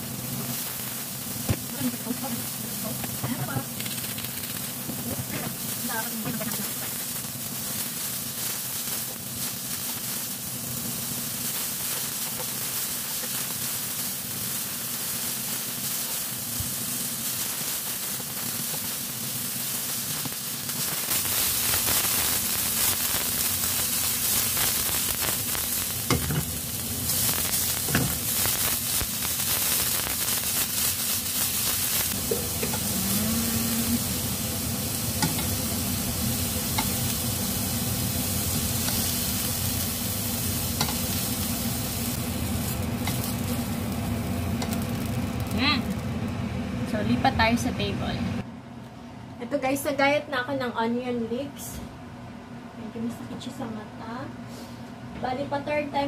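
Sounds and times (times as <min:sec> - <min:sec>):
mushrooms sizzling in a pan: 0:00.0 - 0:47.9.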